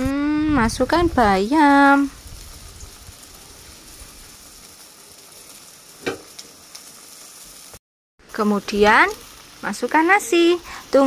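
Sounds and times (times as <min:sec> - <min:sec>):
broth simmering in a wok: 0:00.6 - 0:11.0.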